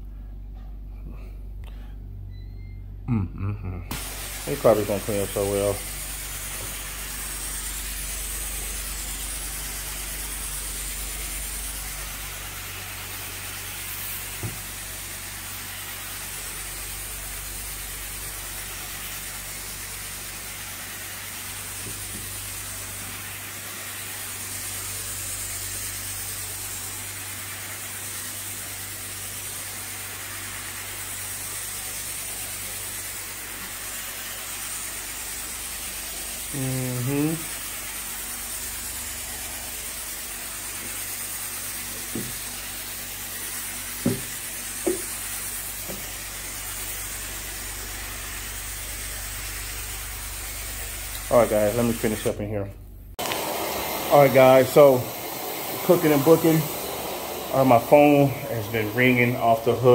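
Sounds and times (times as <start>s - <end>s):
carpet cleaning machine running: 3.9s - 52.5s, 53.2s - 59.9s.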